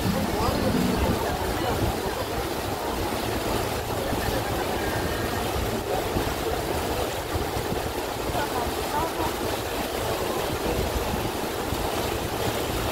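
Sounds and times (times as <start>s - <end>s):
boat engine humming: 0.0s - 12.9s
water rushing past hull: 0.0s - 12.9s.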